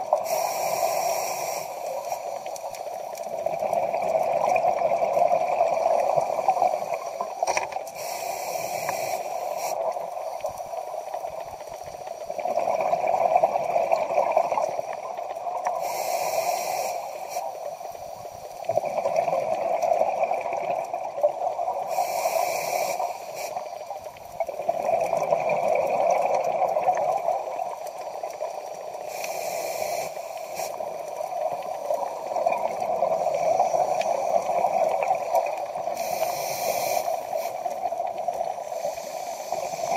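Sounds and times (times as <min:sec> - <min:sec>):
bubbling exhaust underwater: 0:00.0 - 0:39.9
regulator inhale hiss: 0:00.1 - 0:03.6, 0:05.5 - 0:19.0, 0:21.1 - 0:24.5, 0:27.2 - 0:39.9.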